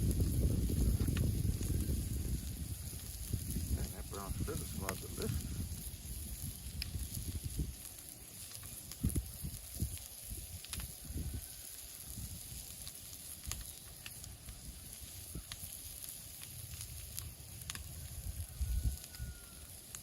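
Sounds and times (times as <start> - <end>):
butter and sugar sizzling: 0.0 - 20.0.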